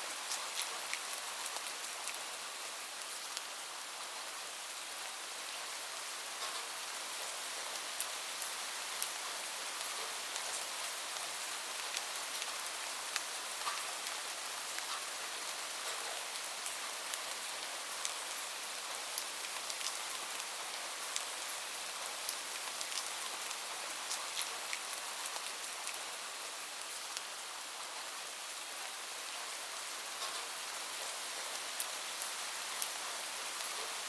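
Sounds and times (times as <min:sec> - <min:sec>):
steady rain hiss: 0:00.0 - 0:34.0
raindrops ticking on a surface: 0:00.1 - 0:34.0.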